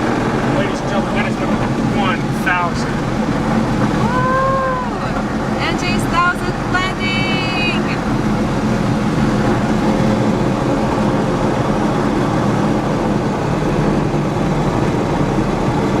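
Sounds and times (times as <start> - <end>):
aircraft engine and propeller running: 0.0 - 16.0.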